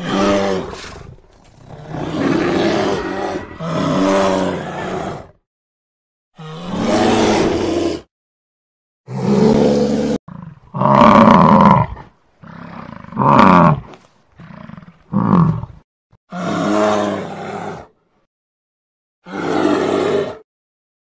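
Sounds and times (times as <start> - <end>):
animal roars and growls: 0.0 - 5.4, 6.4 - 8.1, 9.1 - 18.3, 19.2 - 20.5.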